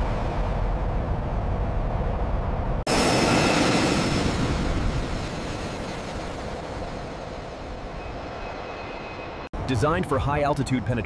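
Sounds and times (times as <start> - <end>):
jet aircraft roar overhead: 0.0 - 11.0.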